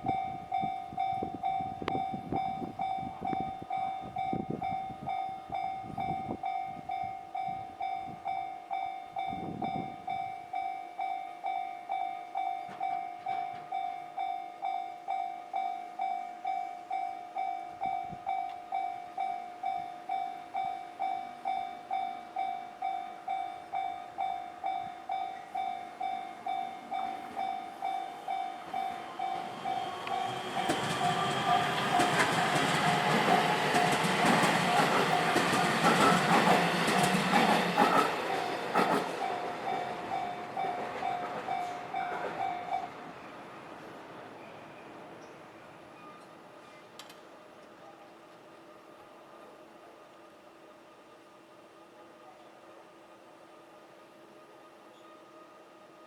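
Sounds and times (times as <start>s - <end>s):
level crossing warning bell: 0.0s - 46.3s
electric train passing: 0.0s - 47.7s.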